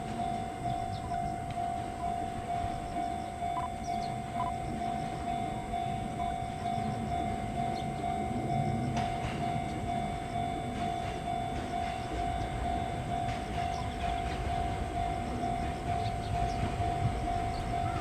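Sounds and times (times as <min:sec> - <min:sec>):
electric train rumbling: 0:00.0 - 0:18.0
level crossing alarm bell: 0:00.0 - 0:18.0.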